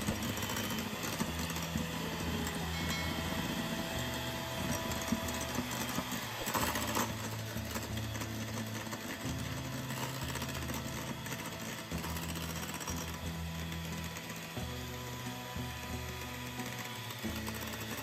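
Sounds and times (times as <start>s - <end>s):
electric hand mixer whirring: 0.0s - 18.0s.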